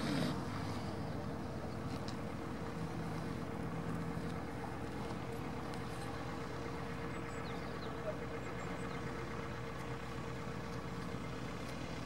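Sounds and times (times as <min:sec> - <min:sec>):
light plane engine and propeller: 0:00.0 - 0:12.0.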